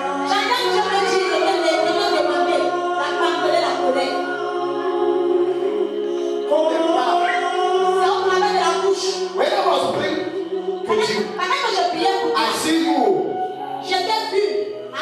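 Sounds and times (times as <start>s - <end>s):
voices singing together: 0.0s - 15.0s.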